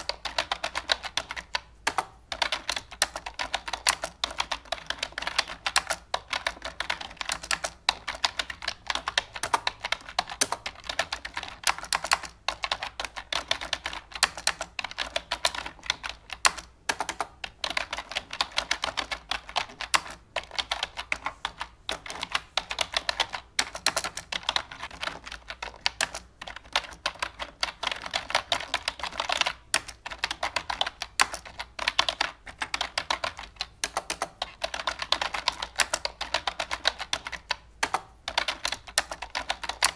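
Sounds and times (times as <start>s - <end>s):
rapid keyboard clicking: 0.0s - 39.9s.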